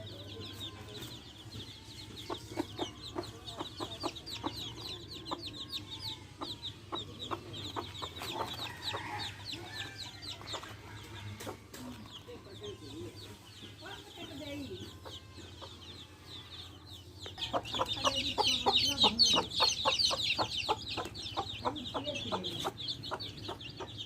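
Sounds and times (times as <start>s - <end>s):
baby chicks peeping: 0.0s - 24.0s
hen clucking: 0.0s - 24.0s.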